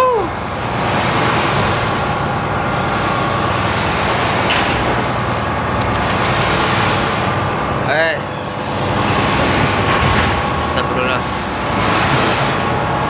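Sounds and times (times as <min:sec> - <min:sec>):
ferry rushing and rumbling: 0:00.4 - 0:13.0.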